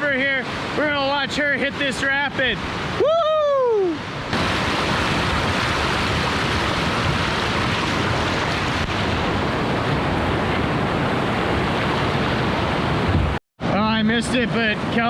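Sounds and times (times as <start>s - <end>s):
river rapids rushing: 0.4s - 13.0s.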